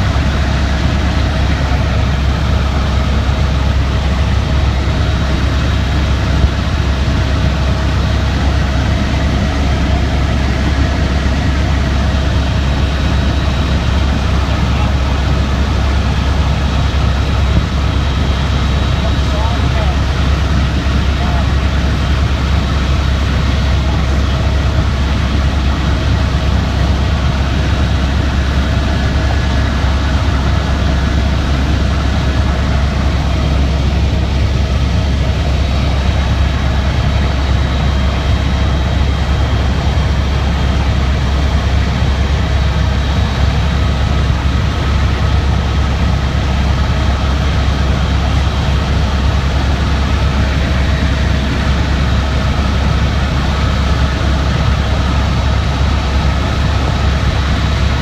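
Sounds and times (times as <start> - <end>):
aircraft engine drone in cabin: 0.0 - 58.0.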